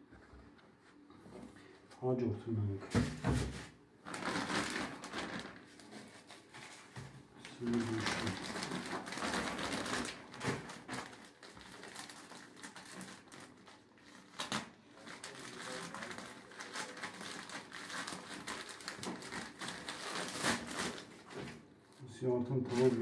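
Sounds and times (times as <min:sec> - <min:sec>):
plastic bag rustling and crinkling: 0:03.0 - 0:23.0.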